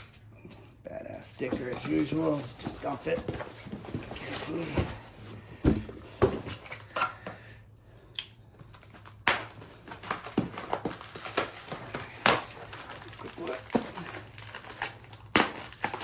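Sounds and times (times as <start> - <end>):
cardboard and packing rustling: 0.0 - 7.4, 8.6 - 16.0.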